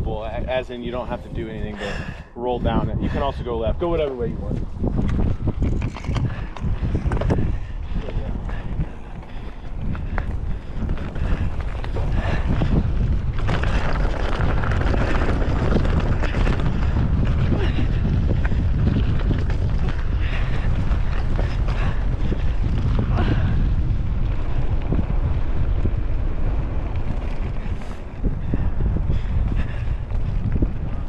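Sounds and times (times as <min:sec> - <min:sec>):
wind on microphone: 0:00.0 - 0:31.0
bike rattling over bumps: 0:03.2 - 0:31.0.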